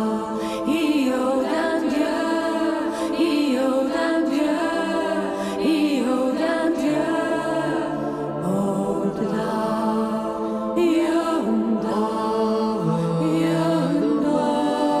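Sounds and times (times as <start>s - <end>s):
voices singing a chant: 0.0s - 15.0s.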